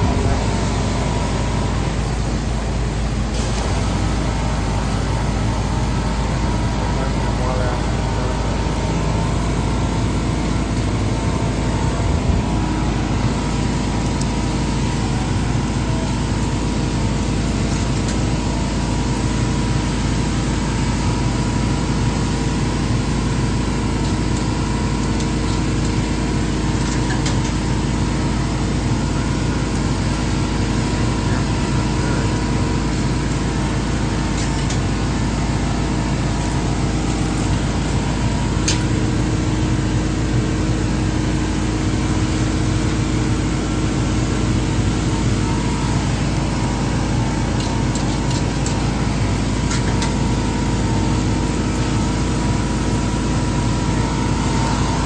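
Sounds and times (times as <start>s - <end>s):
mechanical drone and hum: 0.0s - 55.0s.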